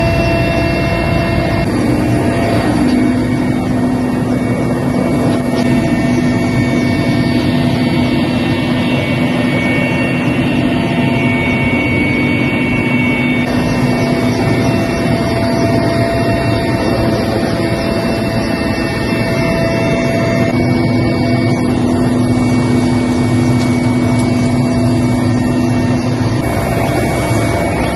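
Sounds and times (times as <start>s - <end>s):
helicopter engine drone: 0.0s - 27.9s.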